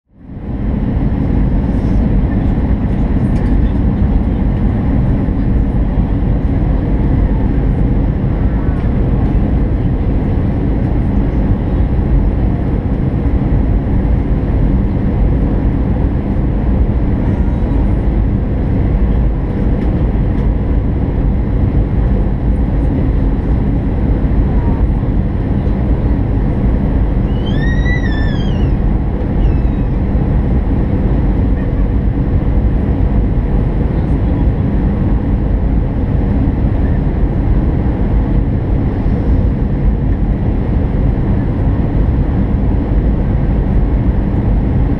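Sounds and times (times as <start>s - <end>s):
airplane engine rumble: 0.1s - 44.9s.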